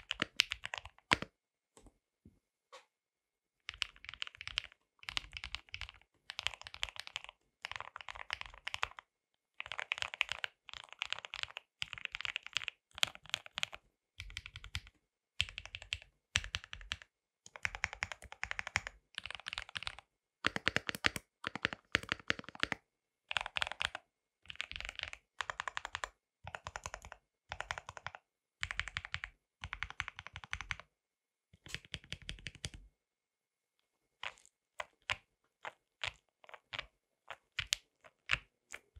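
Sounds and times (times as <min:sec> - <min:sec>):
mechanical keyboard typing: 0:00.0 - 0:01.3, 0:03.7 - 0:09.0, 0:09.6 - 0:30.8, 0:31.6 - 0:32.8, 0:34.8 - 0:38.9.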